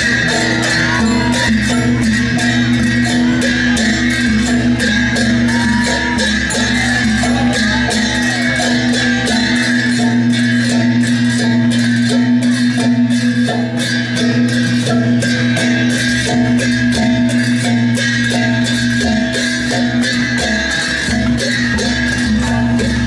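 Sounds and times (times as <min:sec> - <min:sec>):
steady beat: 0:00.0 - 0:23.0.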